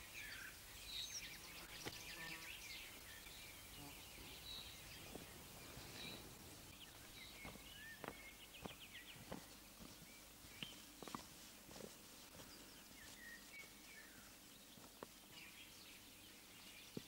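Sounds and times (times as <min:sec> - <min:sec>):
outdoor ambience: 0:00.0 - 0:17.0
small birds chirping: 0:00.0 - 0:17.0.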